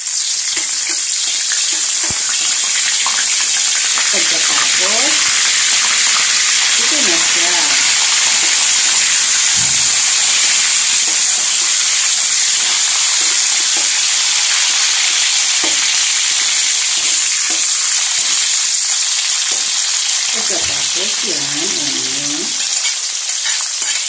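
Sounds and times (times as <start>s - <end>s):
food sizzling in oil: 0.0s - 24.0s
spatula stirring in pan: 0.5s - 24.0s.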